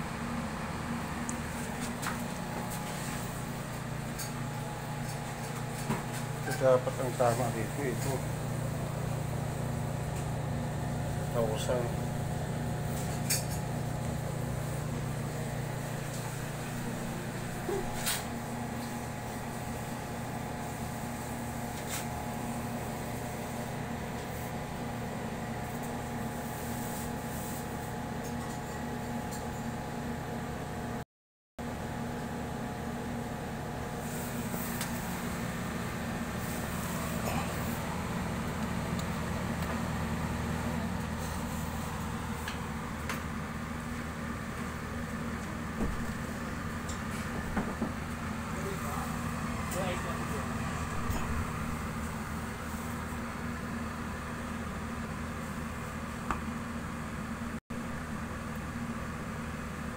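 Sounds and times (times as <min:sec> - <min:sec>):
ice maker humming: 0:00.0 - 0:30.7, 0:31.6 - 0:57.3.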